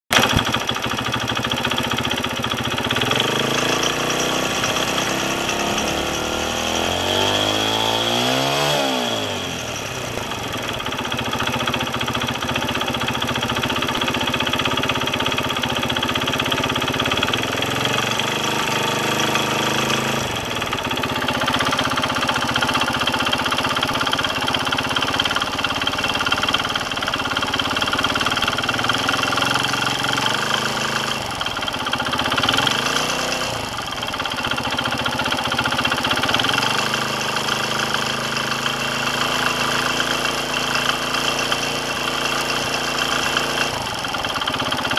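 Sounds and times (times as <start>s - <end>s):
motorcycle engine idling and revving: 0.1s - 44.9s.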